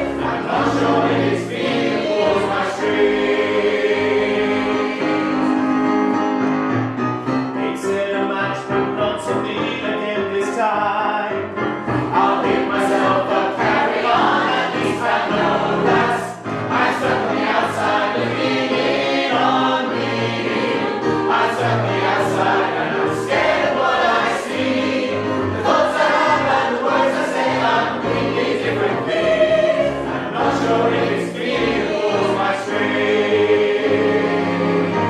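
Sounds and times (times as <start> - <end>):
mixed choir singing: 0.0 - 5.7, 12.0 - 35.0.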